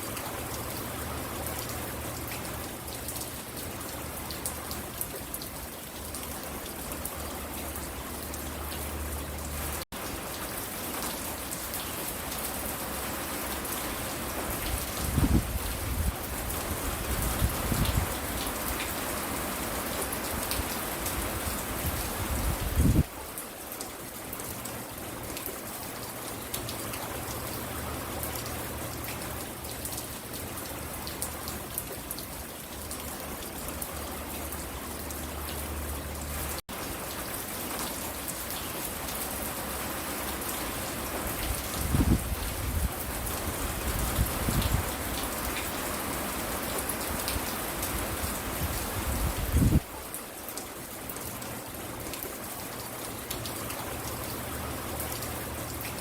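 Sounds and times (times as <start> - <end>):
raindrops ticking close by: 0.0 - 22.1, 22.8 - 48.8, 49.5 - 56.0
steady rain falling: 0.0 - 56.0.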